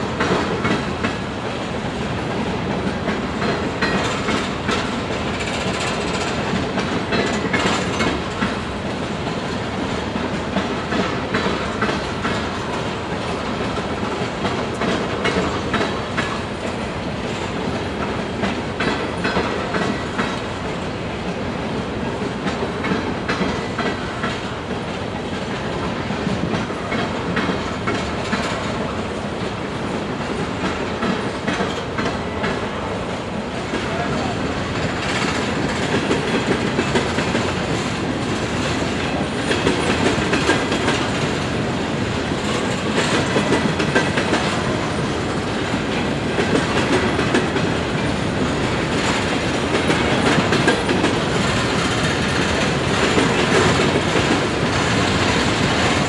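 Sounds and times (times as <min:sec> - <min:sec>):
freight train rumbling past: 0:00.0 - 0:56.0
wheels clicking over rail joints: 0:00.1 - 0:56.0.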